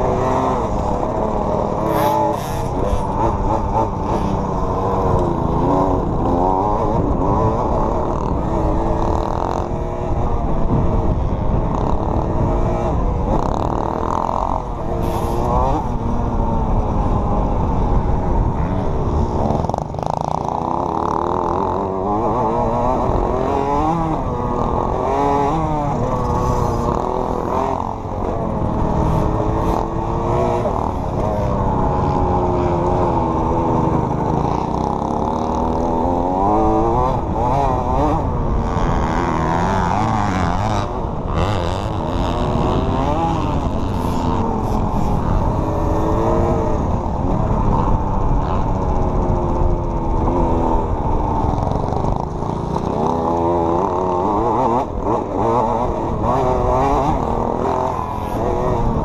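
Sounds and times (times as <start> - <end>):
two-stroke dirt bike engine revving: 0.0 - 59.0.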